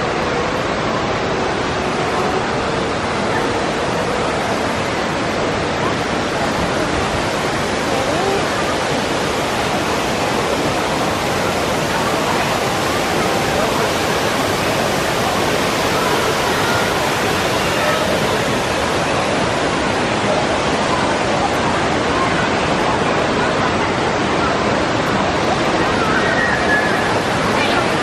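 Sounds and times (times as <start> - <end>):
distant hubbub of voices: 0.0 - 28.0
waterfalls pouring into pool: 0.0 - 28.0.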